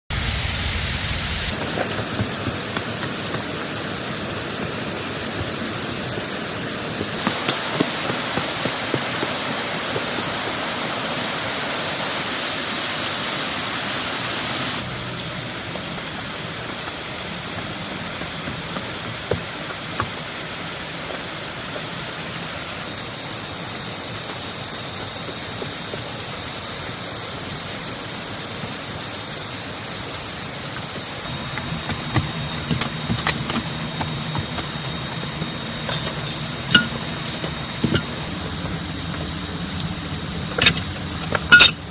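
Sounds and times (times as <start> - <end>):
heavy rain falling: 0.1 - 41.9.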